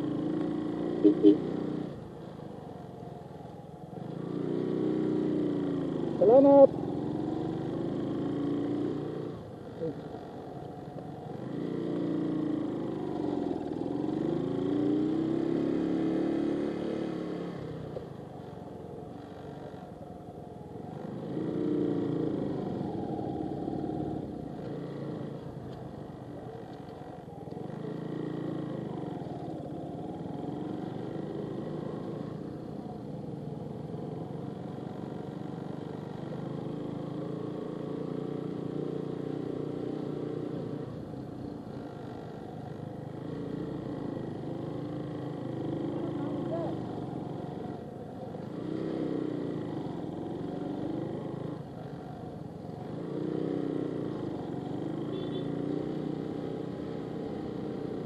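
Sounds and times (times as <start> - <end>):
motorcycle engine revving: 0.0 - 2.2, 3.9 - 19.9, 20.6 - 58.0.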